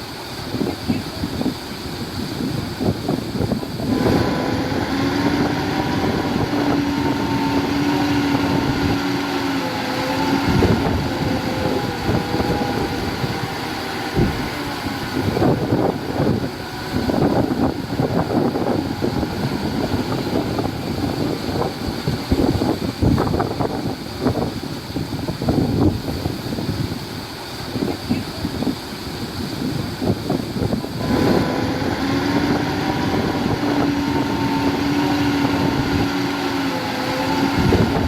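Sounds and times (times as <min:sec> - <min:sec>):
diesel machinery engine: 0:00.0 - 0:38.0.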